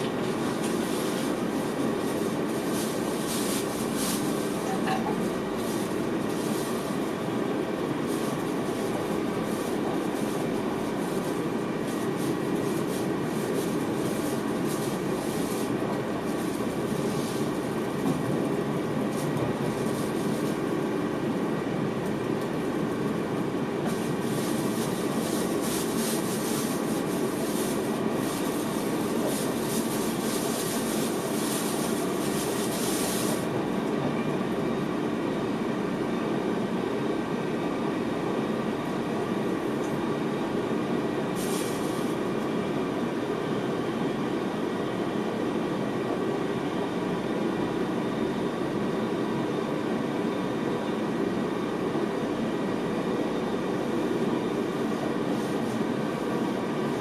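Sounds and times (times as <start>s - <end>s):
train wheels rumbling on rail: 0.0s - 50.2s.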